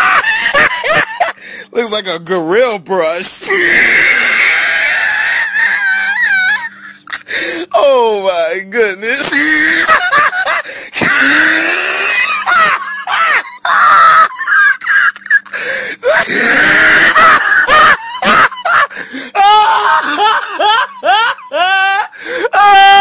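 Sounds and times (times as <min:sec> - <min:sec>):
person shrieking with laughter: 0:00.0 - 0:01.4, 0:03.5 - 0:07.0, 0:09.2 - 0:23.0.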